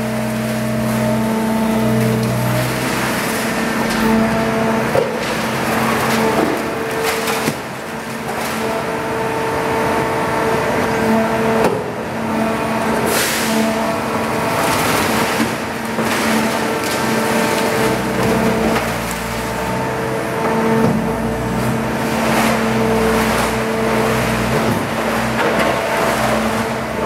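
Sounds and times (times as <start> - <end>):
baler mechanical hum: 0.0 - 27.0.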